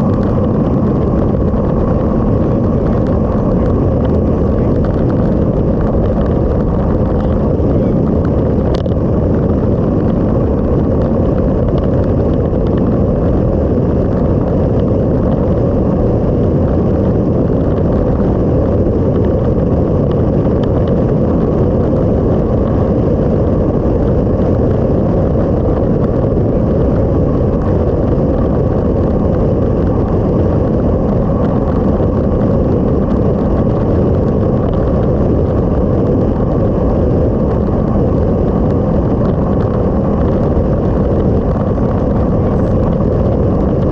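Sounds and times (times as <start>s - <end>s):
wind and road noise rumble: 0.0s - 43.9s.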